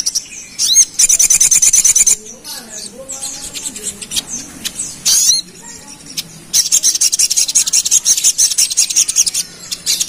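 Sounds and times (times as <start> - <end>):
bird singing rapid chattering song: 0.0 - 10.0.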